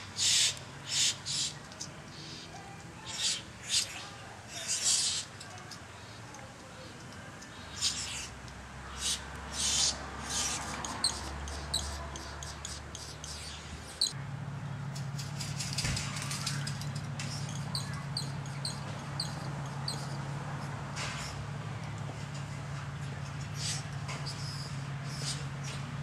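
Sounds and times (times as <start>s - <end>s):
bird chirping: 0.0s - 6.3s, 6.9s - 14.2s, 16.3s - 21.4s, 23.3s - 25.9s.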